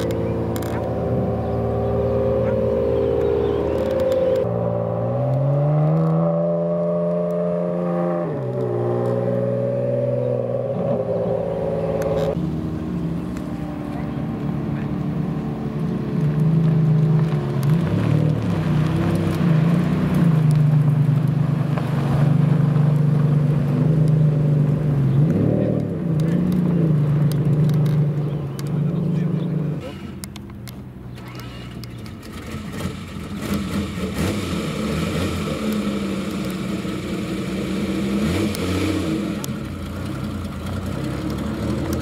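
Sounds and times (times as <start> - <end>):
car engine running at low revs: 0.0 - 42.0.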